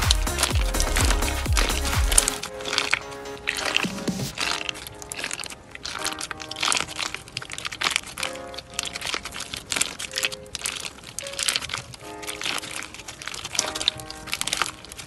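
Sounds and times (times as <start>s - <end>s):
slime with beads crunching: 0.0s - 15.0s
soft background music: 0.0s - 15.0s.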